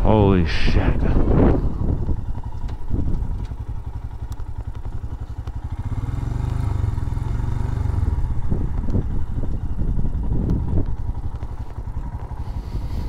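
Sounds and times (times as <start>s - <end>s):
motorcycle engine exhaust pulses: 0.0s - 13.0s.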